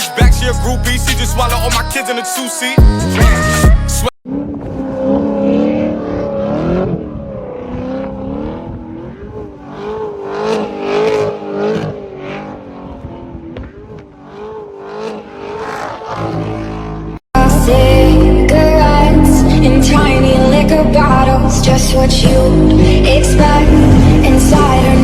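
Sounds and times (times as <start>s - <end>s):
car engine revving: 4.0s - 25.0s.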